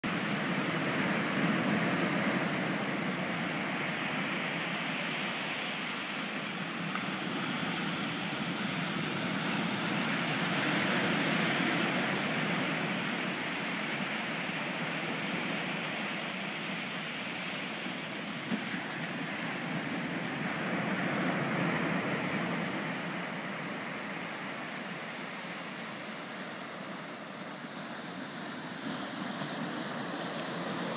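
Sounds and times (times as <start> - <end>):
surf on pebble beach: 0.0 - 30.9.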